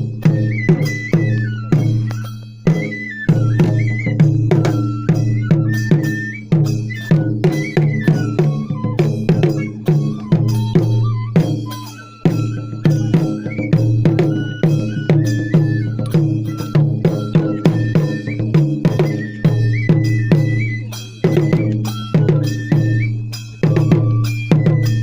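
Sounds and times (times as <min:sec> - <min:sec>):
high flute melody: 0:00.0 - 0:25.0
rapid drum beats: 0:00.0 - 0:25.0
small cymbal beats: 0:00.0 - 0:25.0.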